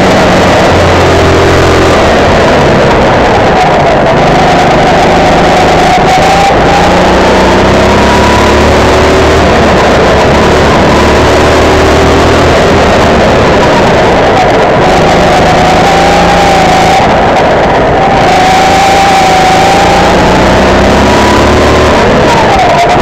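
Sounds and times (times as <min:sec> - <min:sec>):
go-kart engine at racing pace: 0:00.0 - 0:23.0
heavy road noise: 0:00.0 - 0:23.0.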